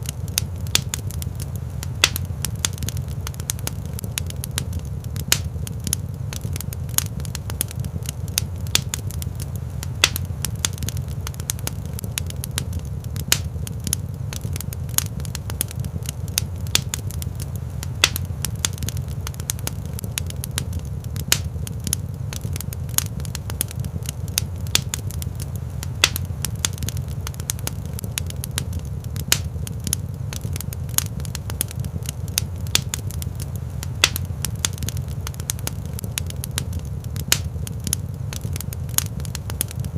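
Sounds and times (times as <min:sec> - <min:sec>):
fire popping and snapping: 0:00.0 - 0:39.9
low rumble of burning fire: 0:00.0 - 0:39.9
wood fire crackling: 0:00.0 - 0:39.9.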